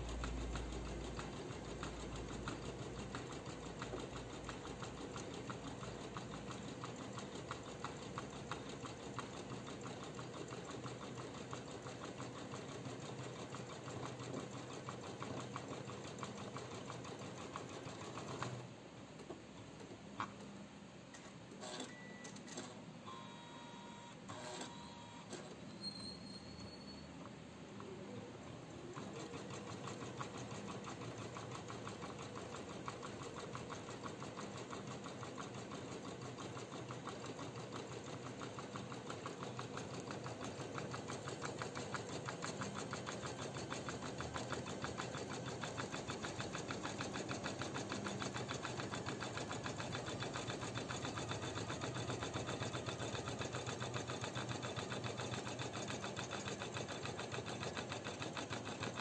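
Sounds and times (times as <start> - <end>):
embroidery machine stitching: 0.0 - 18.6, 28.7 - 59.0.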